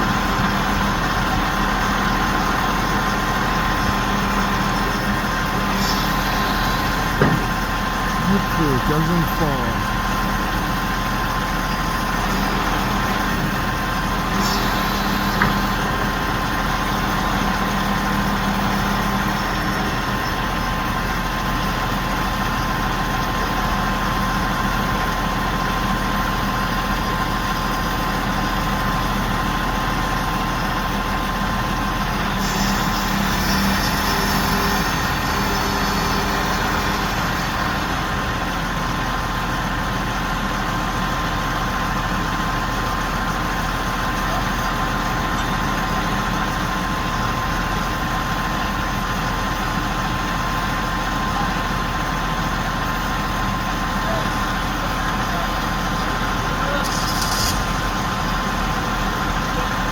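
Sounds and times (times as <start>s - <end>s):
crane engine droning: 0.0s - 59.9s.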